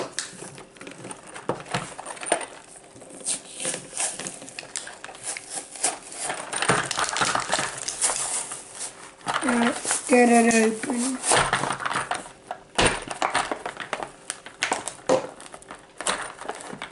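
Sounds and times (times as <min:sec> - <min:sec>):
plastic packaging crackling: 0:00.0 - 0:16.9.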